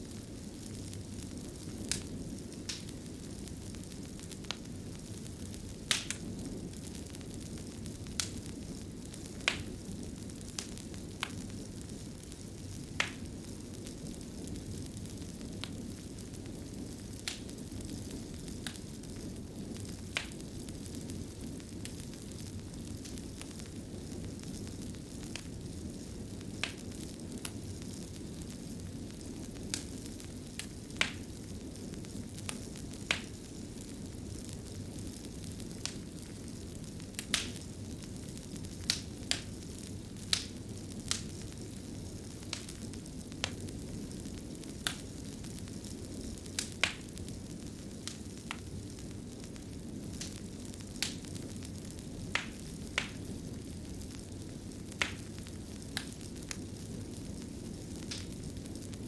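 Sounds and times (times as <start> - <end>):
sharp pops from fire: 0.0 - 59.0
wood fire crackling: 0.0 - 59.0.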